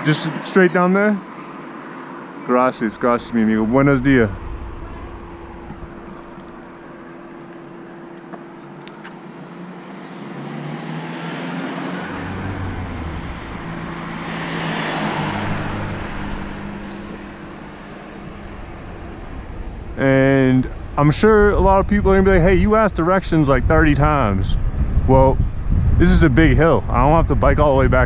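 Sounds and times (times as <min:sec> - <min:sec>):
vehicle passing by: 0:01.8 - 0:26.0.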